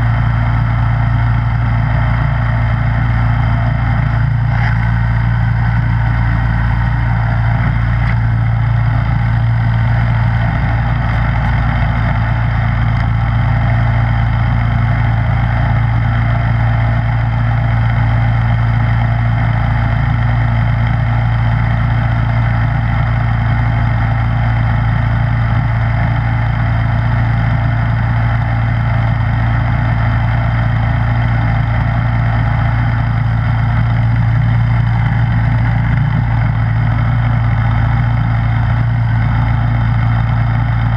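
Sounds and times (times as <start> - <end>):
snowblower engine running: 0.0 - 40.9.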